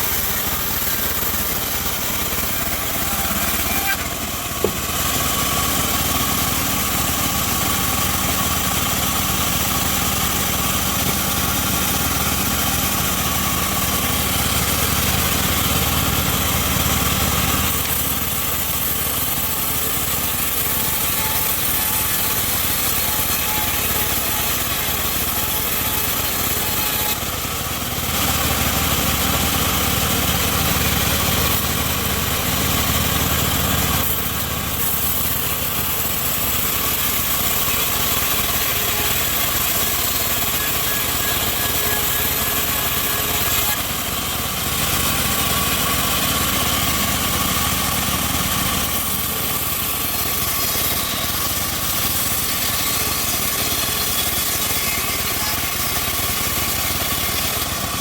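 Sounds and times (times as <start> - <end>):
bandsaw mill drone: 0.0 - 58.0.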